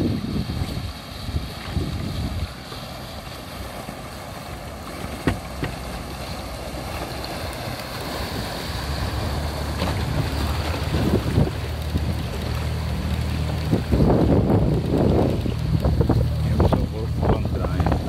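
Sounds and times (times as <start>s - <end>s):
wind buffeting microphone: 0.0s - 2.7s, 4.7s - 18.0s
boat engine drone: 0.0s - 18.0s
rushing water: 0.0s - 18.0s.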